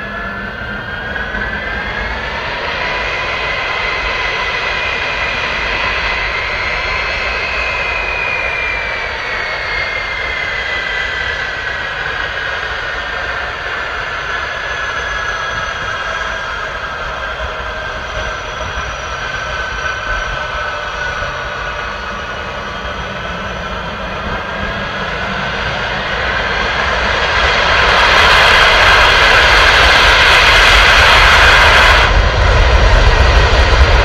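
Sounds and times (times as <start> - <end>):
jet engines whining: 0.0 - 34.0.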